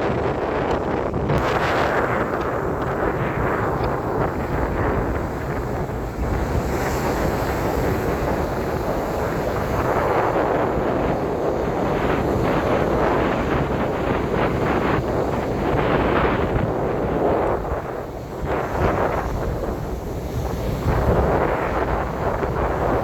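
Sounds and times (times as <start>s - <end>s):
heavy surf: 0.0s - 23.0s
strong wind buffeting microphone: 0.0s - 23.0s.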